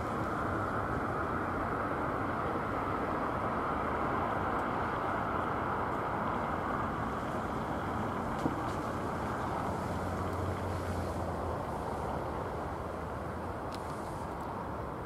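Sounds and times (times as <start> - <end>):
distant jet rumble: 0.0 - 15.0.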